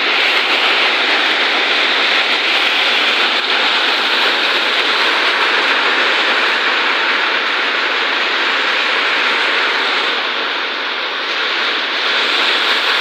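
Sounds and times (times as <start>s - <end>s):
heavy rain pouring: 0.0s - 13.0s
strong wind: 0.0s - 13.0s.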